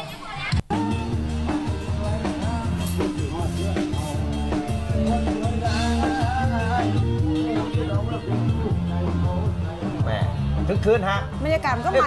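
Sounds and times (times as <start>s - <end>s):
bass-heavy drum beat: 0.5s - 12.0s
person singing: 0.7s - 10.5s.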